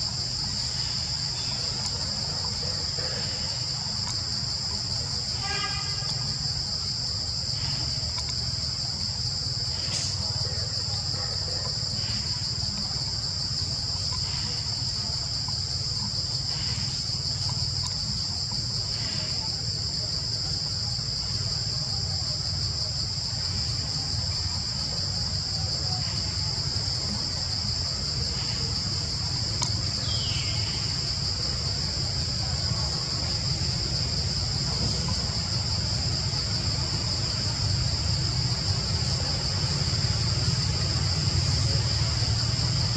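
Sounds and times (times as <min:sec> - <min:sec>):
insect chorus drone: 0:00.0 - 0:42.9.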